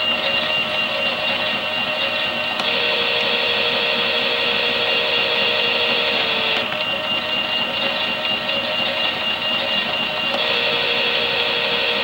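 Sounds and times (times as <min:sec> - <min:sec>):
toy washing machine motor whirring: 0:00.0 - 0:12.0.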